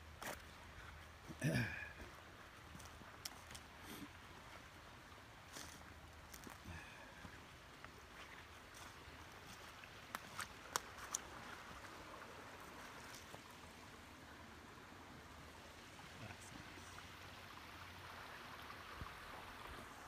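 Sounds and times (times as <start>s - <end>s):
faint stream trickling: 0.0s - 20.0s.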